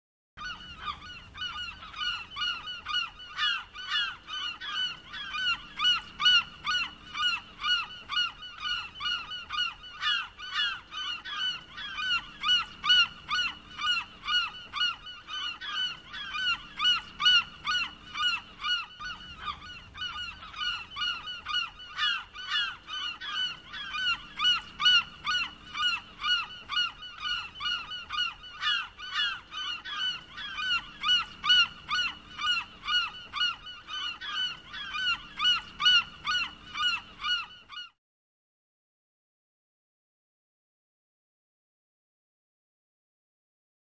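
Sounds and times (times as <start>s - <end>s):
gulls calling: 0.4s - 38.0s.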